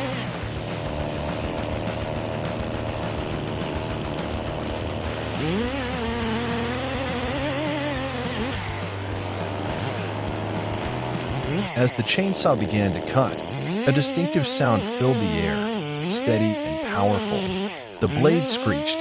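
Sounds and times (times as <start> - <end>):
engine-driven machine running: 0.0 - 19.0
machine whine: 0.0 - 19.0.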